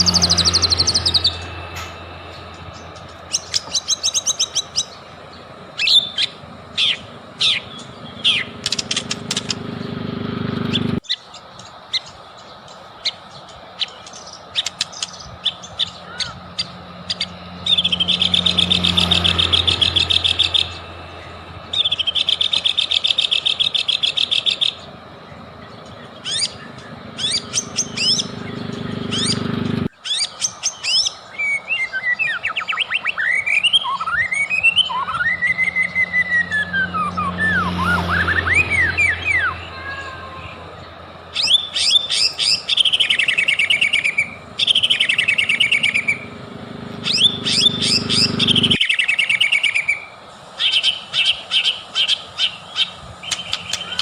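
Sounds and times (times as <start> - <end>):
bird singing chips and trills: 0.0 - 54.0.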